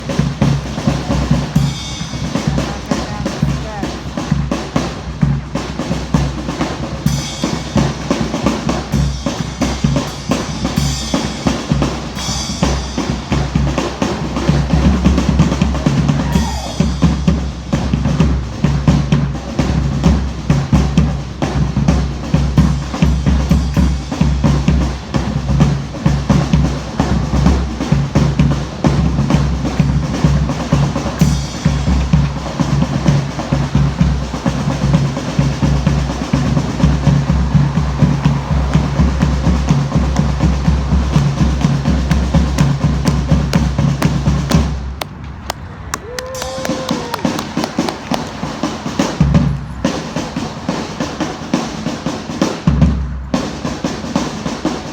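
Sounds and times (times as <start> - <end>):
drums playing a steady beat: 0.0 - 54.9.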